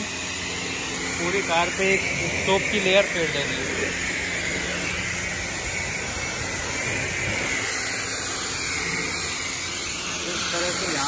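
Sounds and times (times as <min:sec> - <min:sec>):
pressure washer jet hissing: 0:00.0 - 0:11.0.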